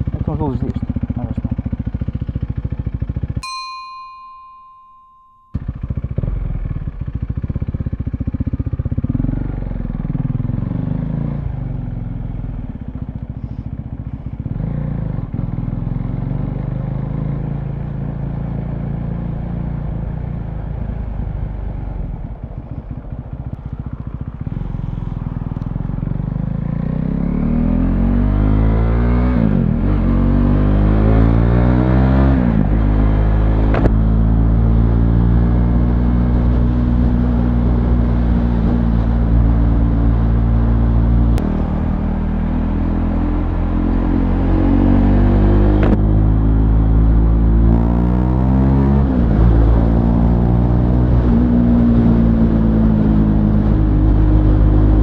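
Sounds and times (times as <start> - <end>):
motorcycle engine revving: 0.0 - 3.4, 5.6 - 55.0.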